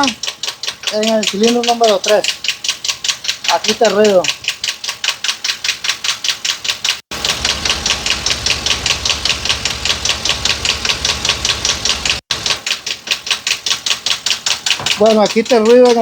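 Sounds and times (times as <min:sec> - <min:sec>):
engine ticking clacking: 0:00.0 - 0:16.0.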